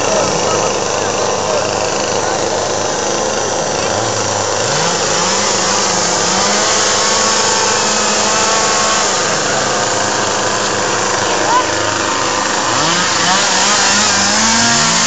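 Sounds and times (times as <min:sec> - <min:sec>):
chainsaws running: 0:00.0 - 0:15.0.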